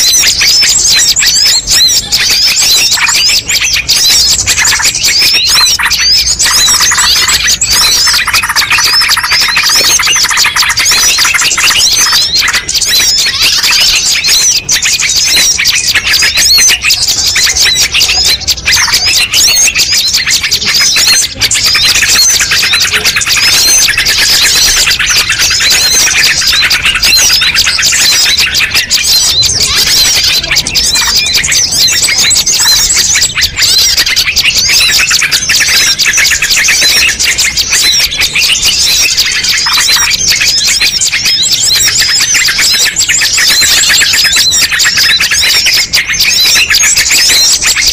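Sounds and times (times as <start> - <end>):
chorus of songbirds chirping: 0.0 - 47.9.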